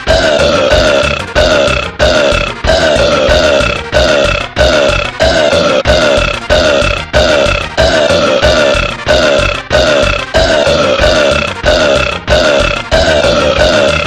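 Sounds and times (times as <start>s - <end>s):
looped cartoon burp: 0.0s - 14.0s.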